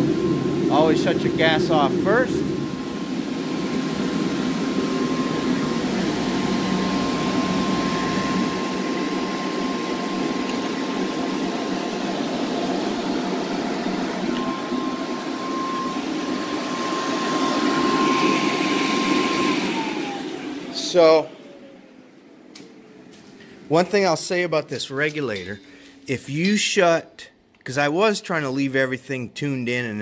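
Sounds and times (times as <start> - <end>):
electric blower fan humming: 0.0 - 26.9.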